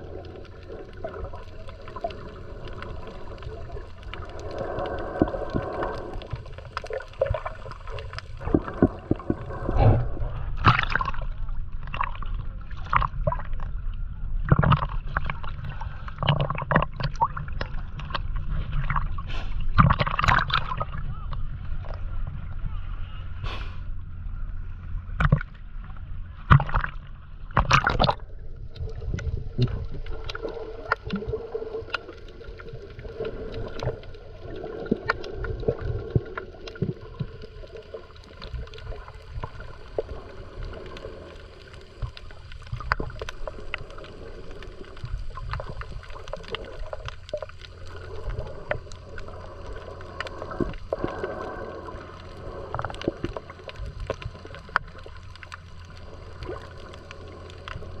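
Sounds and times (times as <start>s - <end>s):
low rumble: 0.0s - 16.6s, 20.5s - 58.0s
water gurgling and sloshing: 0.0s - 58.0s.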